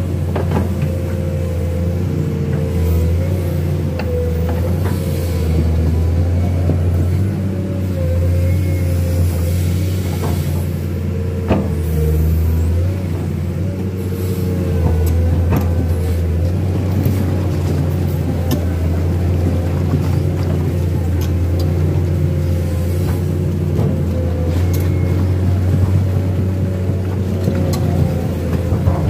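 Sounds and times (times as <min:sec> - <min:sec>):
diesel engine running under load: 0:00.0 - 0:29.0
hydraulic whine: 0:00.0 - 0:29.0.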